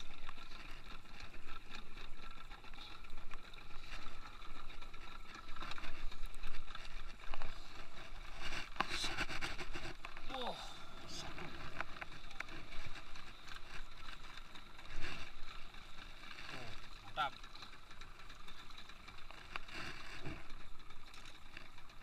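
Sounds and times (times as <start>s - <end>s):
boat engine running: 0.0s - 22.0s
gear knocking and clattering: 0.0s - 22.0s
water noise: 0.0s - 22.0s
wind: 0.0s - 22.0s.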